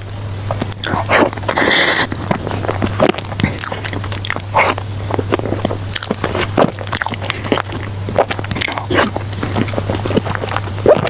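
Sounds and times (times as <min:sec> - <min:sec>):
steady low hum: 0:00.0 - 0:11.0
chewing and biting food: 0:00.5 - 0:11.0.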